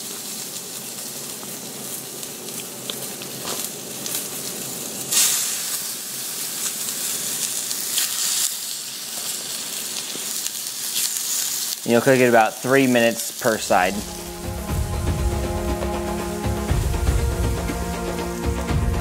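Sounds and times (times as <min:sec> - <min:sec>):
chicken sizzling in oil: 0:00.0 - 0:18.6.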